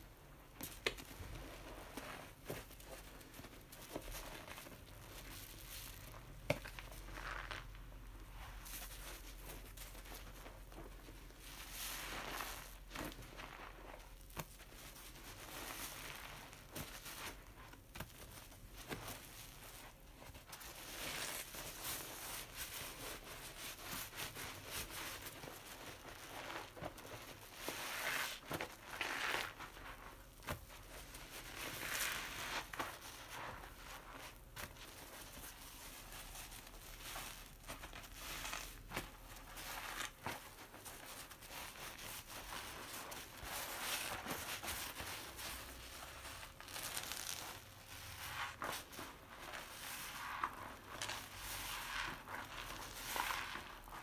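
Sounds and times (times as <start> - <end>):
sponge squelching in soapy water: 0.4 - 54.0.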